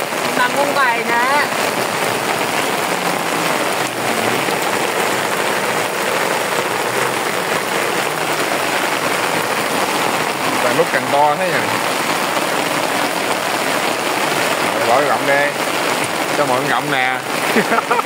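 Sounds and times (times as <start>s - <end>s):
heavy rain on water: 0.0s - 18.0s.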